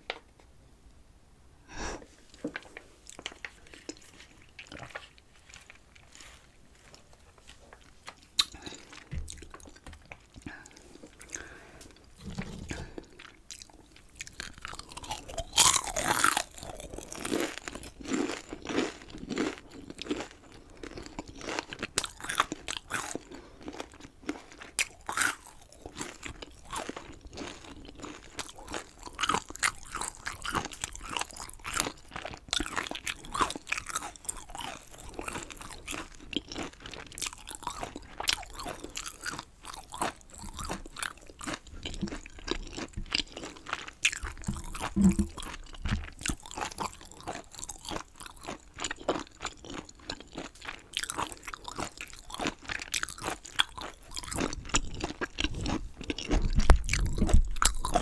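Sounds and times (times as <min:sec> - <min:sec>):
chewing crunchy chicken: 0:02.3 - 0:58.0.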